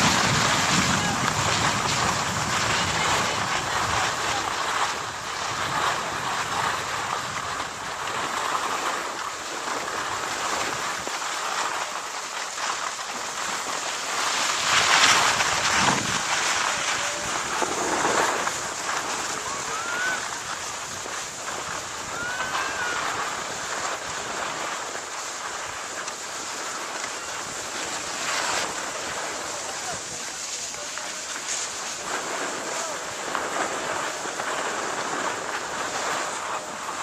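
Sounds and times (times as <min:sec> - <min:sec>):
steady hissing rushing noise: 0:00.0 - 0:37.0.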